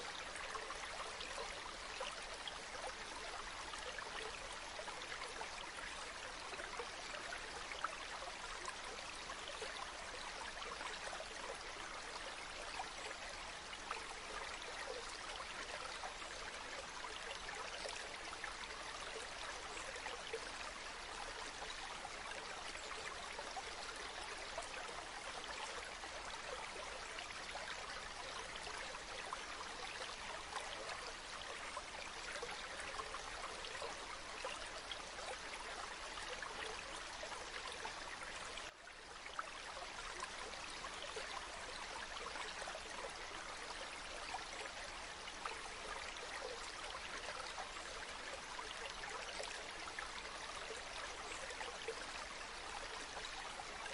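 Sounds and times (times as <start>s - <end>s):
stream babbling: 0.0s - 53.9s.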